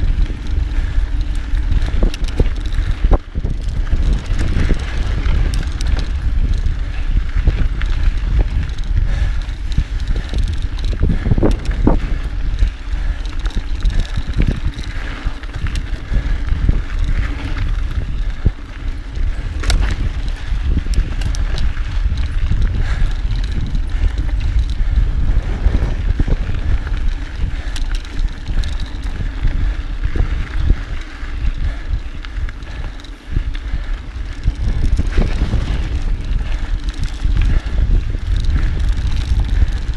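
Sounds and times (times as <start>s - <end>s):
bike clicks and rattles: 0.0s - 39.9s
bike tyres on dirt and rock: 0.0s - 39.9s
wind rumble on microphone: 0.0s - 39.9s.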